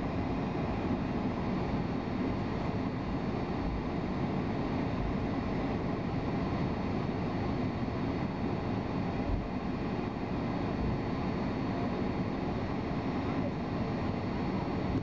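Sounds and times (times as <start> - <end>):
faint high whine: 0.0 - 15.0
jet engine cabin rumble: 0.0 - 15.0.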